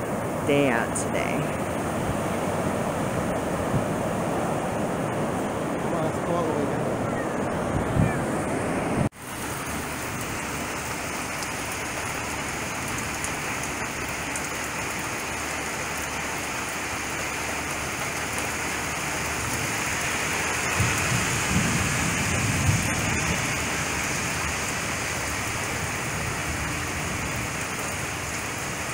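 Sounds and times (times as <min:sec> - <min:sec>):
steady rain falling: 0:00.0 - 0:08.0, 0:08.7 - 0:28.9
ocean surf: 0:00.0 - 0:28.9.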